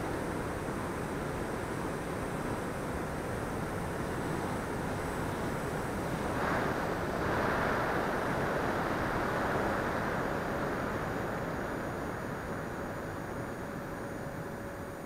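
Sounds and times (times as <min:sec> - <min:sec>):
wind rushing over camera: 0:00.1 - 0:15.0.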